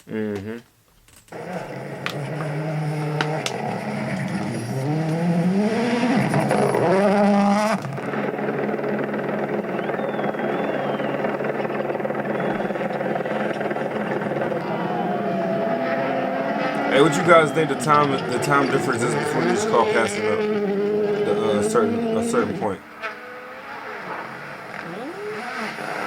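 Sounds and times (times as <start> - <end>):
rally car engine revving: 1.3 - 26.0
steady engine sound: 1.3 - 26.0.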